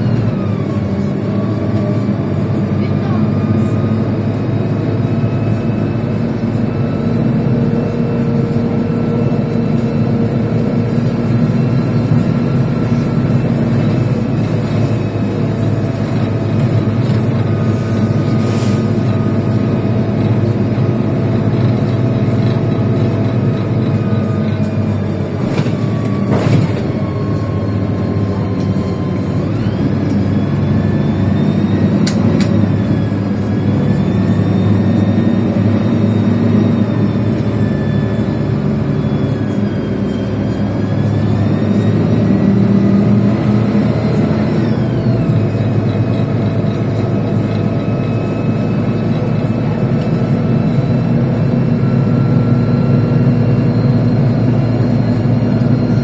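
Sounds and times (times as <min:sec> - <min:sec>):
bus engine and road rumble: 0:00.0 - 0:56.0
whine shifting in pitch: 0:00.0 - 0:56.0.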